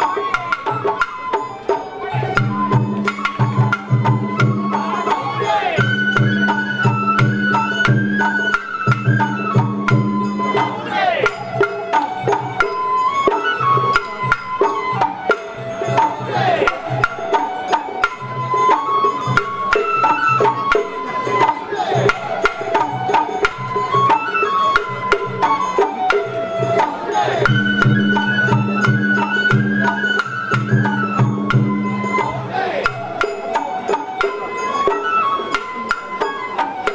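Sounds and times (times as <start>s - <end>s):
drum beats: 0.0s - 36.9s
high bamboo flute melody: 0.0s - 36.9s.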